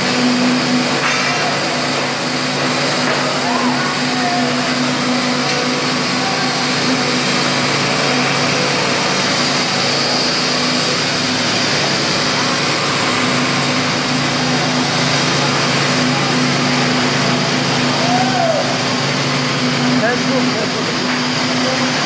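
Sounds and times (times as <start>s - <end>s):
construction machinery drone: 0.0s - 22.0s.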